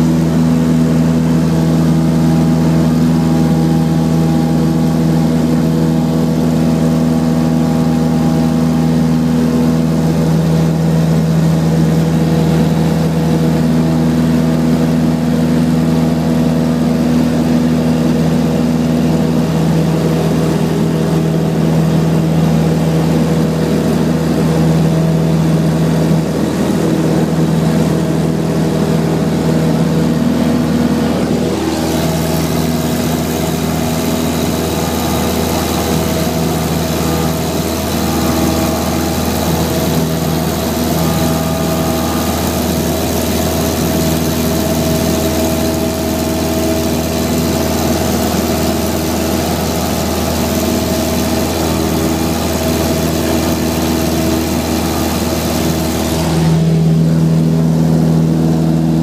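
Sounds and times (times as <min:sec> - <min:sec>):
small plane engine in cabin: 0:00.0 - 0:59.0.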